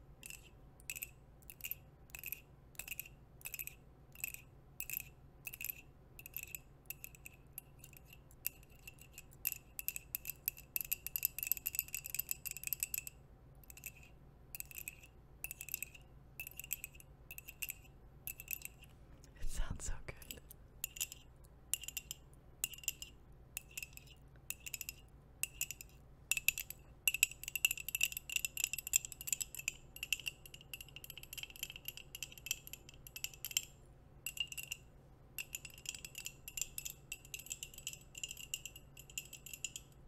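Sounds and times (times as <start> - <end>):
nails tapping on ceramic mug: 0.2 - 18.8, 20.2 - 33.7, 34.3 - 34.8, 35.4 - 40.0.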